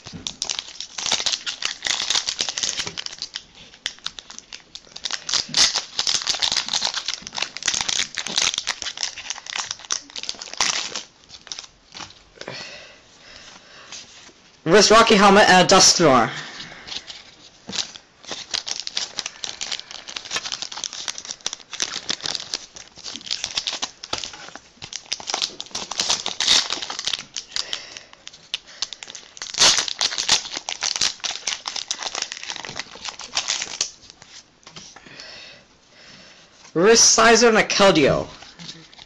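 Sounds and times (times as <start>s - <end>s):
foil wrapper crinkling and tearing: 0.0s - 12.4s, 16.7s - 35.0s, 37.8s - 39.0s.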